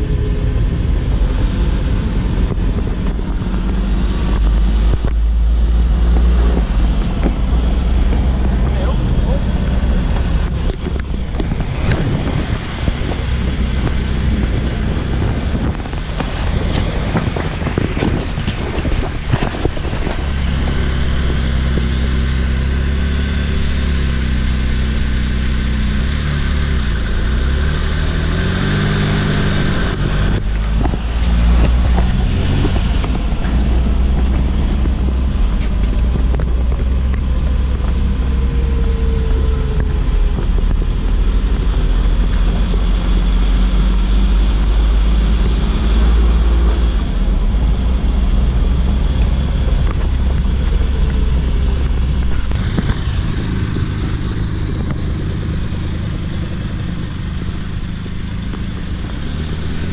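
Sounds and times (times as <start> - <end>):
car engine running: 0.0 - 59.9
wind rushing over microphone: 0.0 - 59.9.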